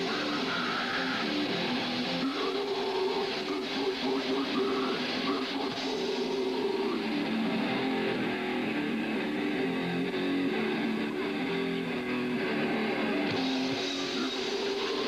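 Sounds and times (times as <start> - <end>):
distorted electric guitar and bass: 0.0 - 15.0
live grindcore band playing: 0.0 - 15.0.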